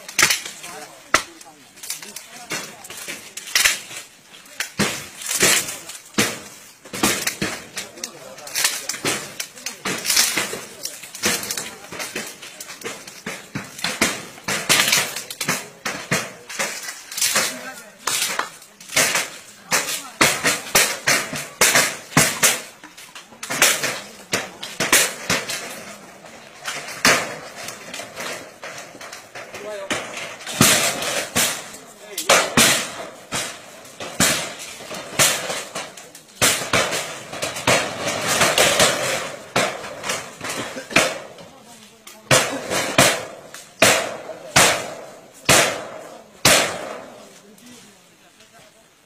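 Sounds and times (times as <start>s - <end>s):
metal sheets banging and crashing: 4.7s - 22.8s, 23.4s - 41.6s, 42.2s - 47.3s.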